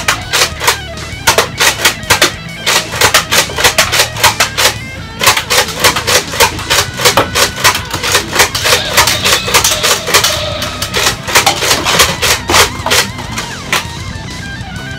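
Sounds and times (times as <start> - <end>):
toy blaster plastic clacks: 0.0 - 13.9
background music: 0.0 - 14.9.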